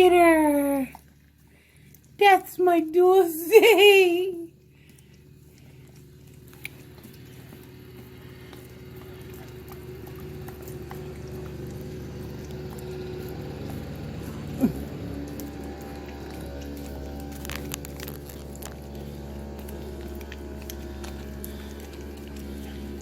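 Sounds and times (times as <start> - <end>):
dog licking and smacking: 0.0 - 3.6, 4.3 - 23.0
low steady hum: 0.0 - 23.0.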